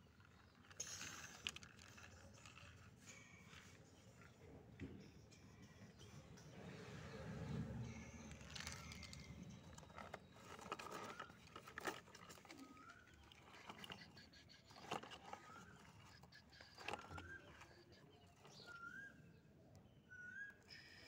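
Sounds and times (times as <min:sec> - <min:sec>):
toy truck wheels on sand: 0:00.0 - 0:04.4, 0:05.9 - 0:19.3.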